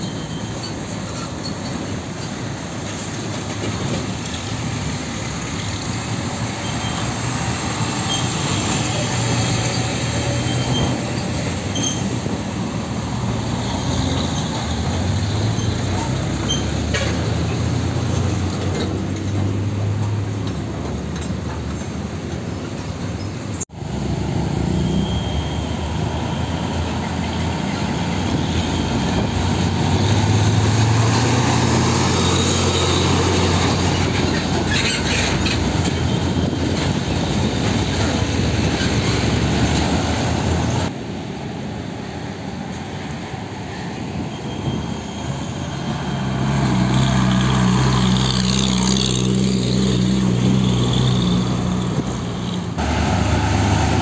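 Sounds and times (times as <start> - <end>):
diesel trucks driving past: 0.0 - 54.0.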